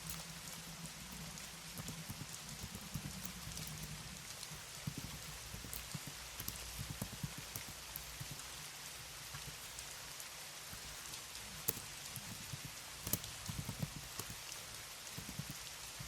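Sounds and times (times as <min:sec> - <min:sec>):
keyboard typing: 0:00.0 - 0:10.0, 0:10.7 - 0:15.8
background hiss: 0:00.0 - 0:16.0.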